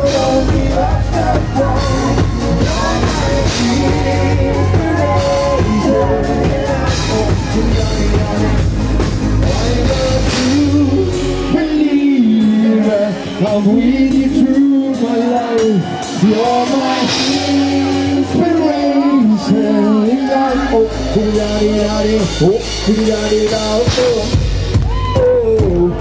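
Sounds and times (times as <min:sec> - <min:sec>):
live band playing: 0:00.0 - 0:26.0
person singing lead melody: 0:00.0 - 0:26.0.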